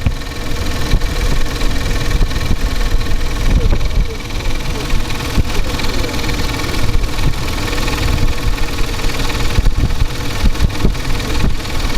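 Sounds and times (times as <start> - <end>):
car engine idling: 0.0 - 11.9
engine knock: 0.0 - 11.9.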